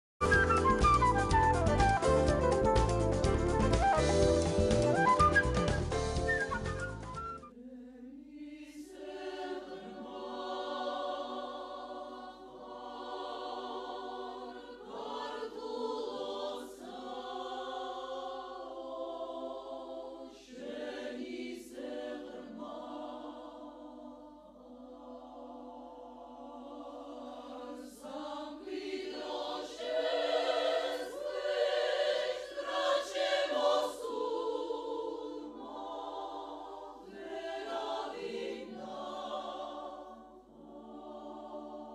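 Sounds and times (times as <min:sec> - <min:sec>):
women's choir singing: 0:07.5 - 0:41.9.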